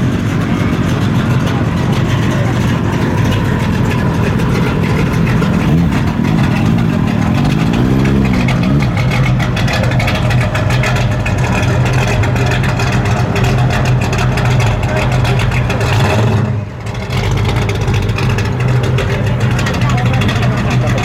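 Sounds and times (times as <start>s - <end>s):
car engine idling with throttle blips: 0.0s - 21.0s.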